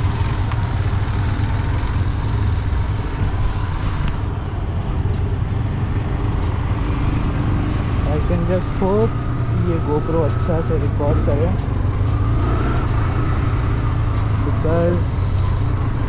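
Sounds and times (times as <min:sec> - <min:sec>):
motorcycle engine running: 0:00.0 - 0:16.0
tyres on rough road: 0:00.0 - 0:16.0
wind rumble: 0:00.0 - 0:16.0.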